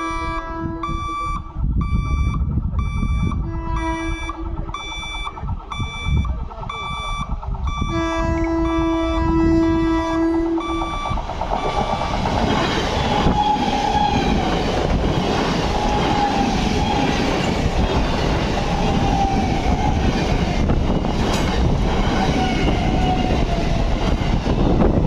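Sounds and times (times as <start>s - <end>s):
train wheels rumbling on rail: 0.0s - 25.0s
clickety-clack over rail joints: 2.4s - 25.0s.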